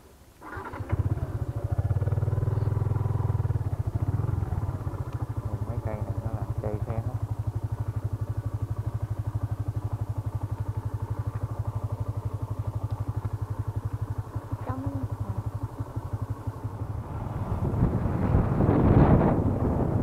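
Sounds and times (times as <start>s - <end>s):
motorcycle engine idling: 0.4s - 20.0s.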